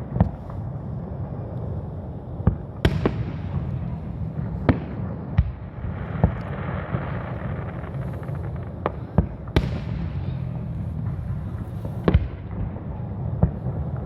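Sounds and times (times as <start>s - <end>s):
fireworks bangs: 0.0s - 14.0s
fireworks rumble and hiss: 0.0s - 14.0s.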